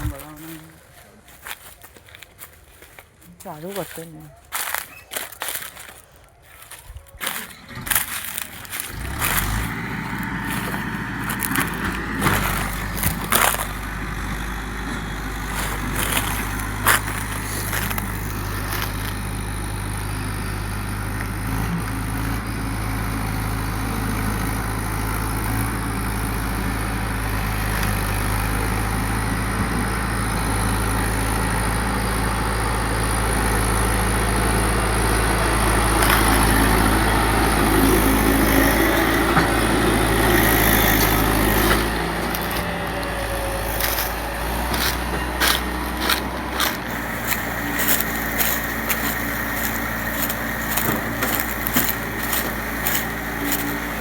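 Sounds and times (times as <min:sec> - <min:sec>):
tractor diesel engine idling: 0:00.0 - 0:01.7, 0:06.5 - 0:54.0.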